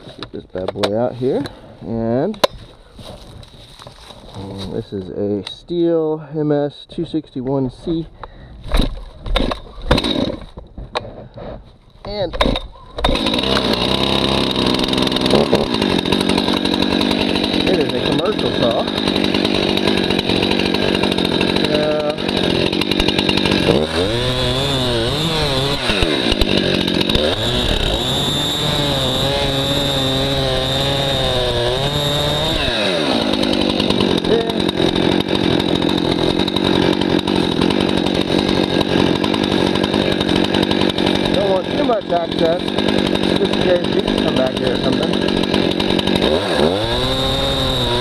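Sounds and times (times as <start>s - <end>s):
chainsaw idling and cutting: 0.0s - 48.0s.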